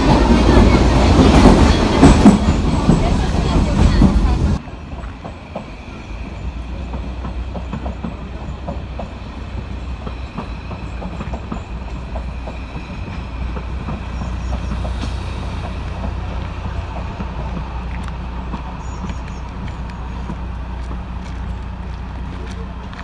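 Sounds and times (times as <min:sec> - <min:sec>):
train rumbling along track: 0:00.0 - 0:23.0.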